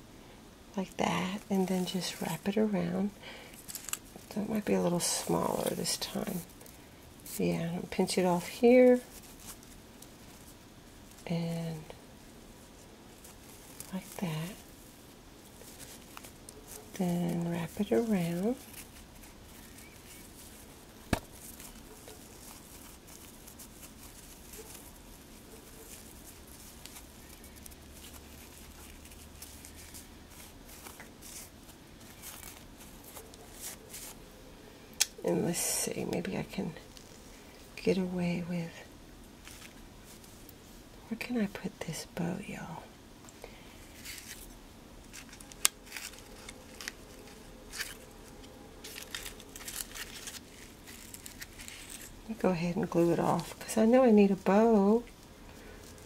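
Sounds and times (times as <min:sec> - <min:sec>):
ribbon rustling and crinkling: 0:00.8 - 0:56.0.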